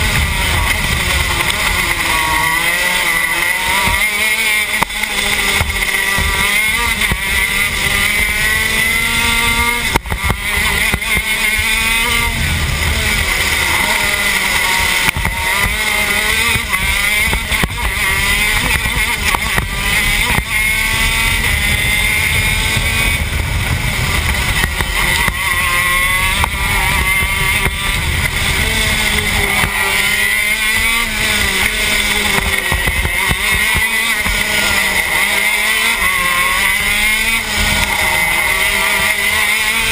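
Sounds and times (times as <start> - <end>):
kart engine revving through gears: 0.0 - 39.9.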